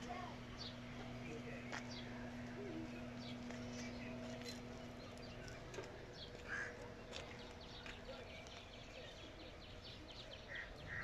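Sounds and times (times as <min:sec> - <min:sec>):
birds chirping: 0:00.0 - 0:11.0
faint steady hum: 0:00.0 - 0:11.0.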